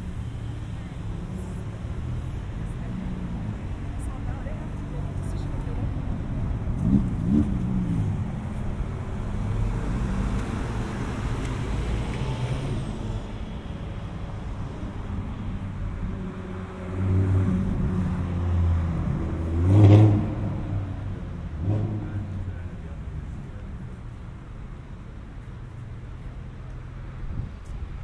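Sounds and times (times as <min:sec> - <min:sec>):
vehicles driving past: 0:00.0 - 0:28.0.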